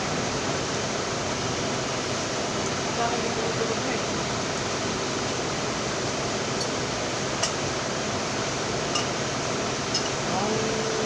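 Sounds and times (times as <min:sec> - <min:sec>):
electric fan air hiss: 0:00.0 - 0:11.0.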